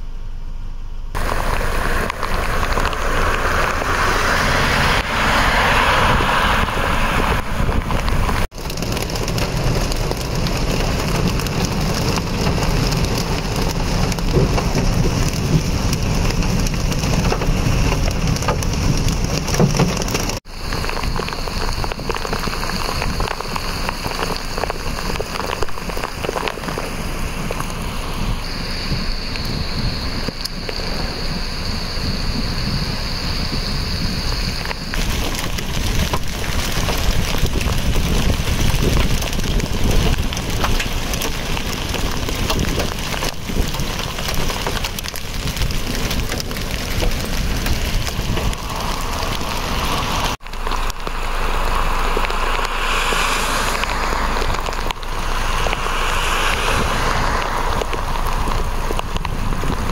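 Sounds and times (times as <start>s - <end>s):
wind noise on microphone: 1.1s - 59.9s
heavy rain and hail: 1.2s - 59.9s.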